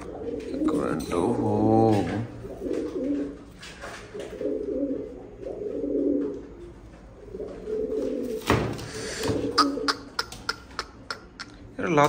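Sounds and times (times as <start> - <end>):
pigeons cooing: 0.0 - 11.8.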